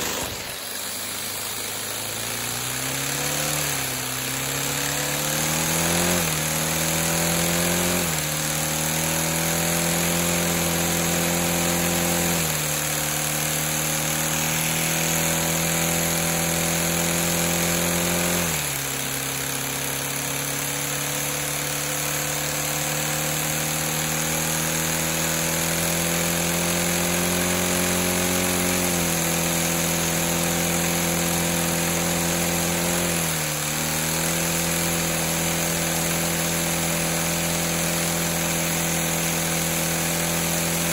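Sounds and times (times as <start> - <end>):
small engine mechanical hum: 0.0 - 40.9.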